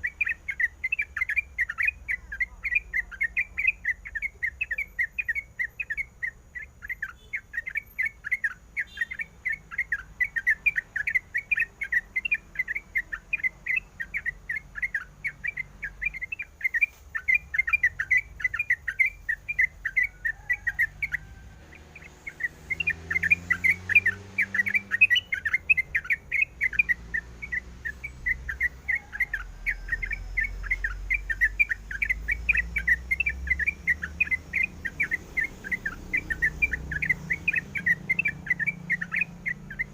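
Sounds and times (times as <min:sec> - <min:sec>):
bulbul chirping: 0:00.0 - 0:39.9.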